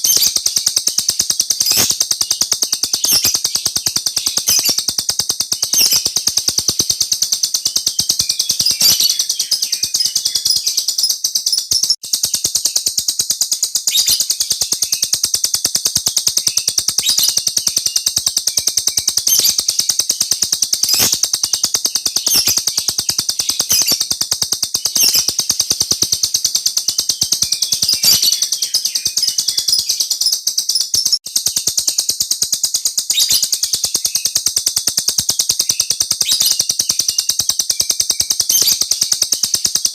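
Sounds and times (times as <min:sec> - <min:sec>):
songbird trilling: 0:00.0 - 0:39.8.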